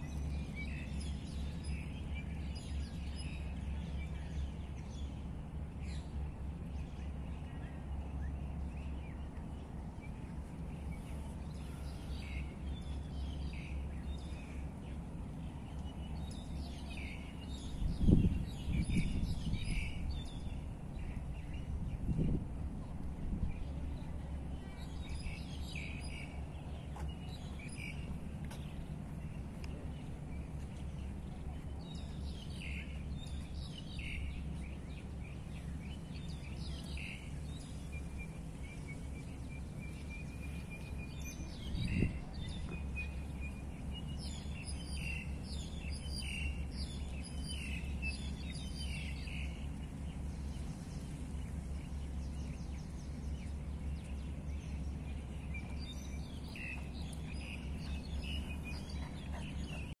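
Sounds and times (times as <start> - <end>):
city background hum: 0.0 - 60.0
small birds chirping: 0.0 - 60.0.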